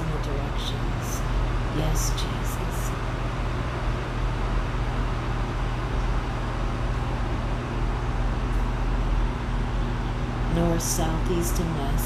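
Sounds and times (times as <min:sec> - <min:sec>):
low constant hum: 0:00.0 - 0:12.0.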